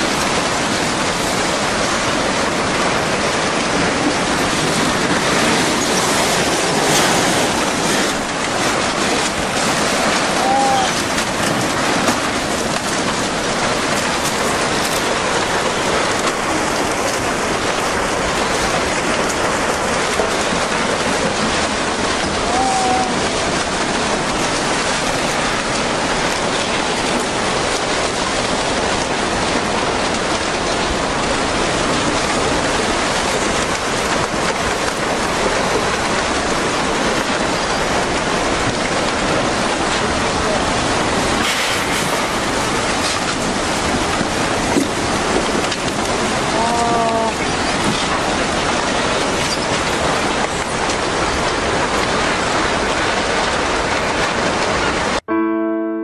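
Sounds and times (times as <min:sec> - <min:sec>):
water rushing: 0:00.0 - 0:55.3.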